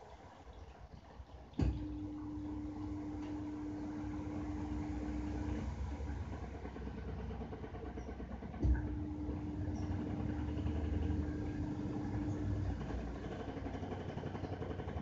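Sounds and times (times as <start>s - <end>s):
continuous low rumble: 0.0s - 15.0s
washing machine motor humming: 1.3s - 15.0s.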